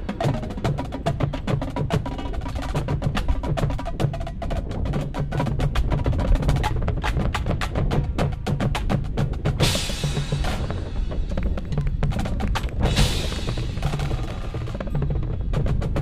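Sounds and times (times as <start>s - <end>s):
marching drumline playing fast: 0.0s - 16.0s.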